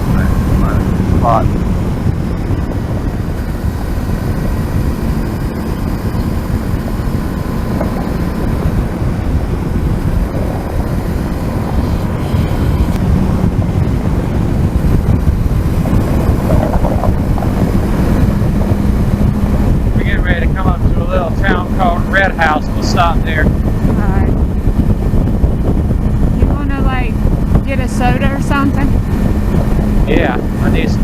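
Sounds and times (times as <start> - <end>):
motorcycle engine cruising: 0.0 - 31.0
wind rushing over microphone: 0.0 - 31.0.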